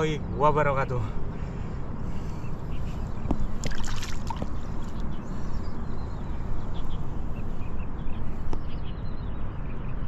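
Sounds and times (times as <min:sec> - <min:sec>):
low outdoor rumble: 0:00.0 - 0:09.9.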